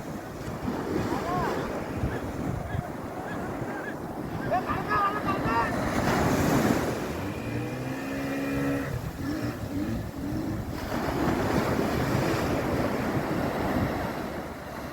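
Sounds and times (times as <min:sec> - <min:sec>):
breaking surf: 0:00.0 - 0:14.9
wind buffeting microphone: 0:00.0 - 0:14.9.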